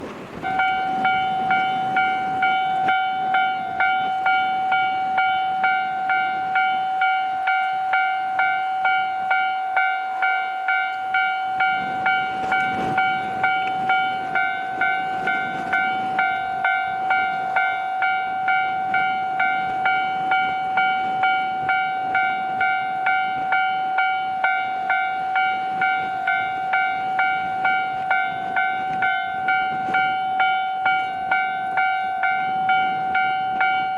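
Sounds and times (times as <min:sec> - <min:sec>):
level crossing alarm ding-ding: 0:00.4 - 0:33.9.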